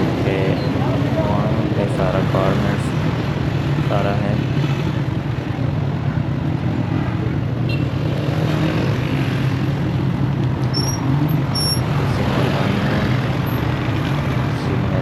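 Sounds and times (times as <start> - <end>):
city traffic and road noise: 0.0 - 15.0.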